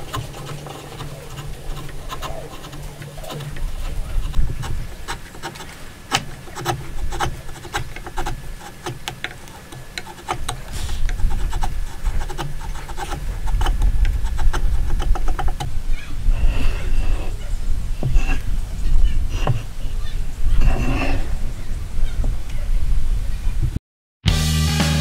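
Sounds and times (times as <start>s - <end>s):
chisel scraping wood: 0.0s - 21.5s.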